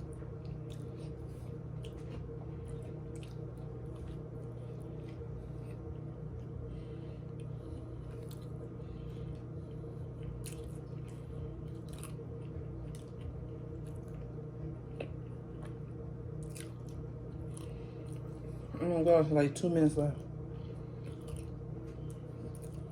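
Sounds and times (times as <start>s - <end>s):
person chewing sandwich: 0.0s - 18.7s, 20.5s - 22.9s
steady low hum: 0.0s - 22.9s.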